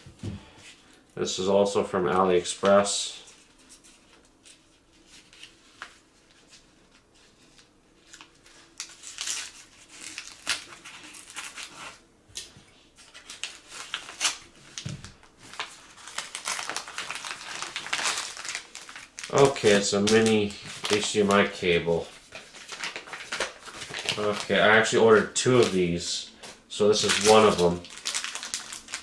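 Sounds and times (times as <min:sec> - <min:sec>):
packaging crinkling and tearing: 0:02.1 - 0:29.0.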